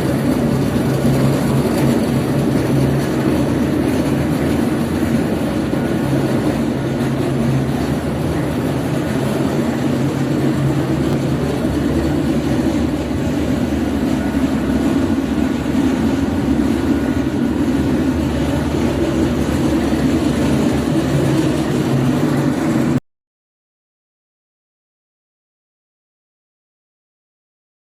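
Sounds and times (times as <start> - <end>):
grinder mechanical rumble: 0.0 - 23.0.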